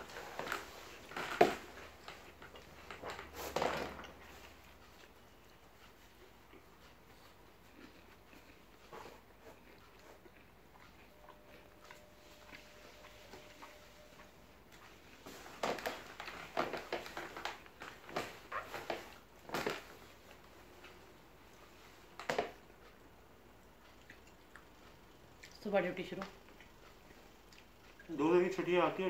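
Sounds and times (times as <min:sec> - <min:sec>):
chewing: 0:00.0 - 0:25.6, 0:26.2 - 0:28.2
crackly clicks and rustles: 0:00.0 - 0:29.0.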